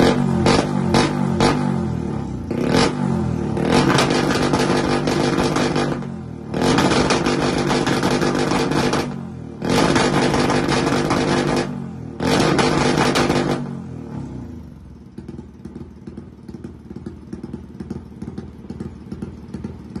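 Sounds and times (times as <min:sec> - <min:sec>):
motorcycle engine revving and idling: 0:00.0 - 0:20.0.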